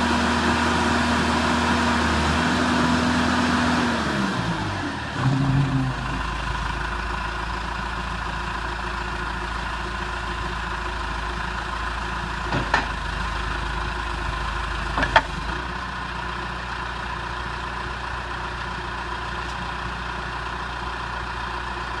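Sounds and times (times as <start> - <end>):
diesel engine idling: 2.9 - 22.0.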